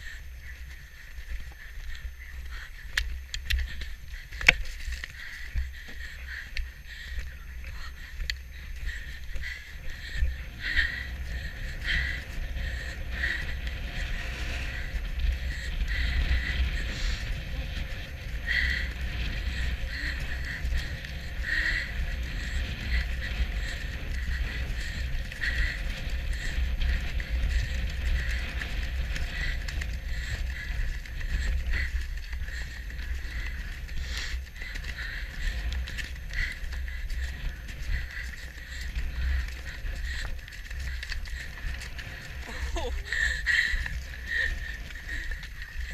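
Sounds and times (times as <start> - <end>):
hoofbeats on turf: 0.0 - 45.9
wind buffeting microphone: 0.0 - 45.9.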